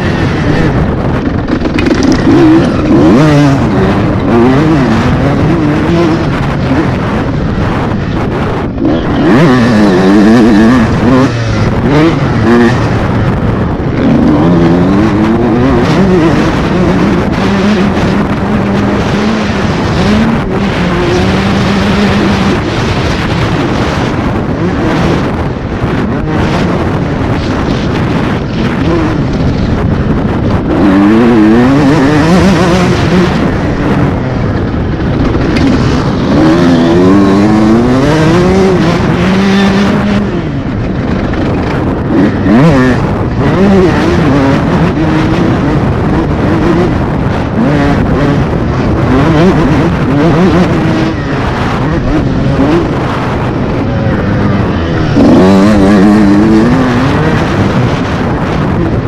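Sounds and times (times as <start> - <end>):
motocross bike engine revving: 0.0 - 59.0
steady rushing noise: 0.0 - 59.0.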